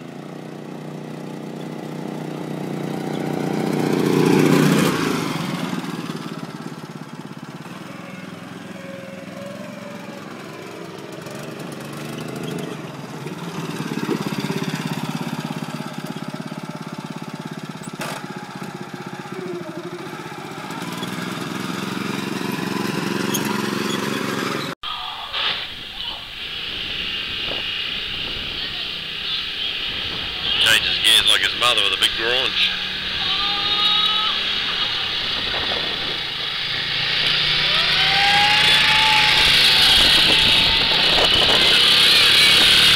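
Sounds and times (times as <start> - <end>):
small car engine running: 0.0 - 24.8, 26.7 - 42.9.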